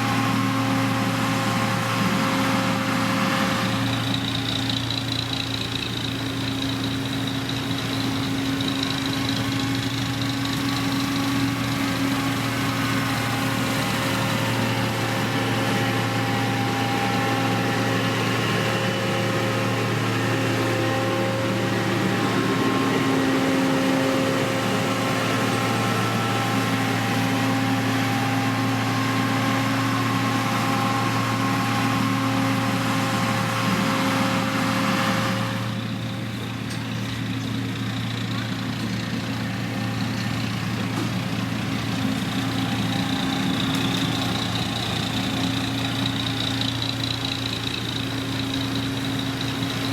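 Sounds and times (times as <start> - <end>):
diesel engine running steadily: 0.0 - 49.9.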